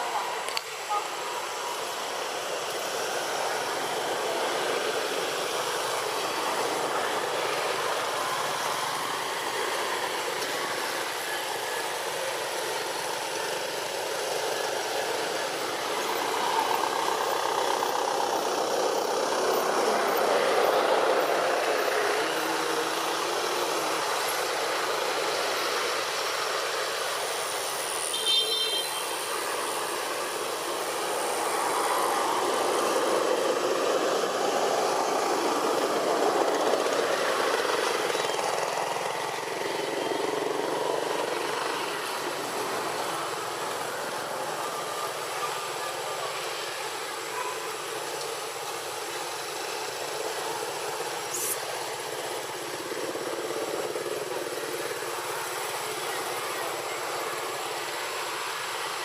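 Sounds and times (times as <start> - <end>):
motor traffic drone: 0.0 - 59.0.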